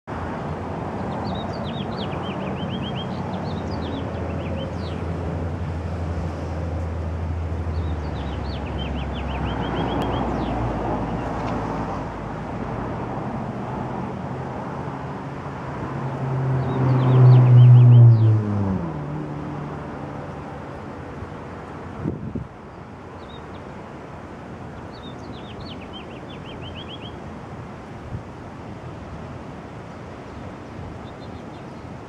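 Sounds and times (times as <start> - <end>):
road traffic rumble: 0.1 - 32.0.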